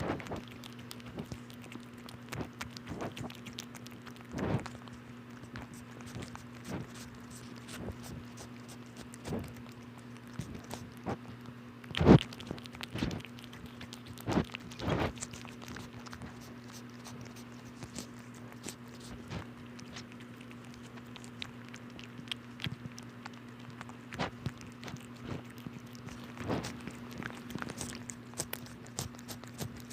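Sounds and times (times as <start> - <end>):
kitten crunching a snack: 0.0 - 29.9.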